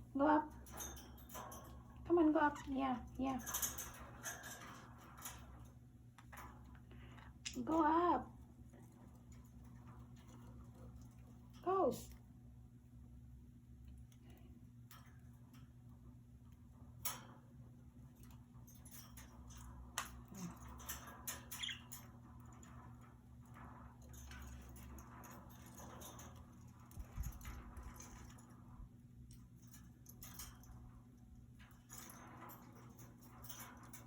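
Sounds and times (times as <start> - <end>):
claws and beaks tapping cage bars: 0.2 - 34.0.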